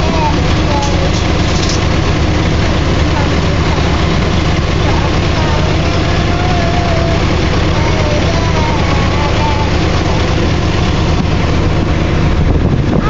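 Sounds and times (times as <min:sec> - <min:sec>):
heavy diesel engines running: 0:00.0 - 0:13.0.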